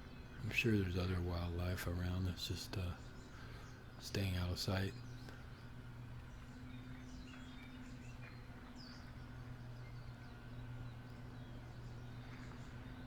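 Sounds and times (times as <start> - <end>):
faint bird chirps: 0.0 - 13.0
steady low hum: 0.0 - 13.0.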